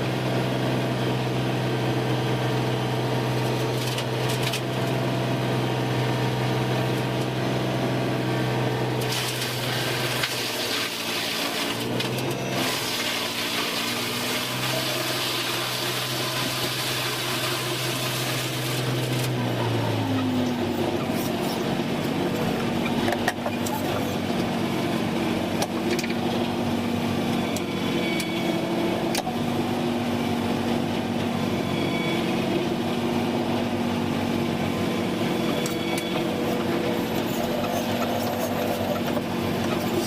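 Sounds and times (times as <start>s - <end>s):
wood machinery humming: 0.0s - 40.0s.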